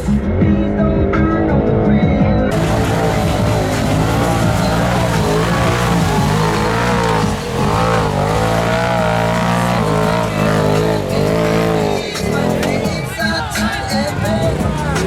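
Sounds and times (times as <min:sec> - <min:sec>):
engine revving hard: 0:02.5 - 0:15.0.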